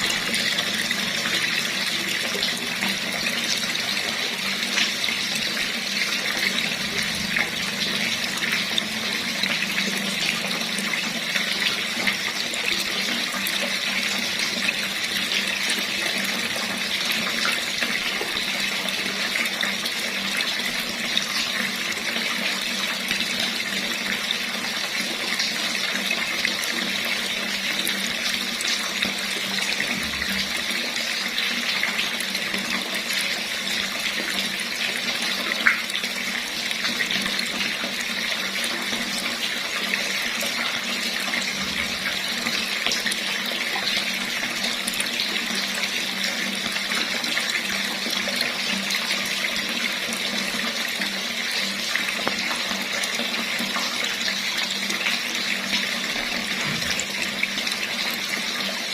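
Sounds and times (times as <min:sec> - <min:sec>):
water running from a tap: 0:00.0 - 0:58.9.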